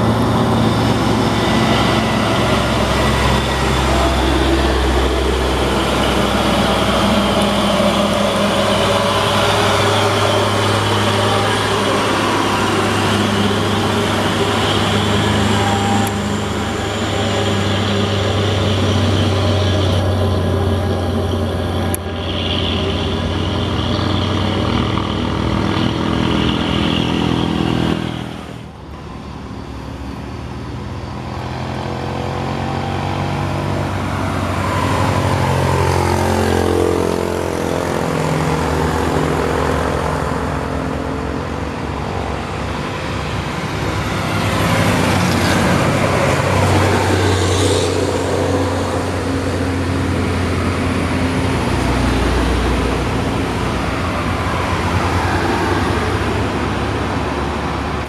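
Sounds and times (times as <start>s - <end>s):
motorcycles passing: 0.0s - 29.6s, 30.4s - 58.0s
bus passing: 0.0s - 58.0s
diesel trucks passing: 0.0s - 58.0s.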